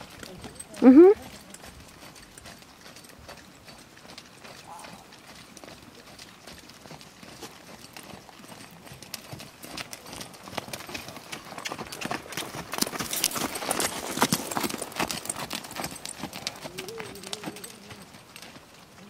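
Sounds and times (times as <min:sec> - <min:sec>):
horse hoofbeats on sand: 0:00.0 - 0:19.0.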